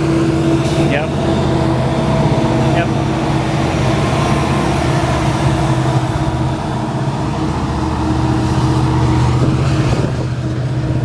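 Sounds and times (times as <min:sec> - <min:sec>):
diesel engine drone: 0:00.0 - 0:11.0
rumble of train cars: 0:00.0 - 0:11.0.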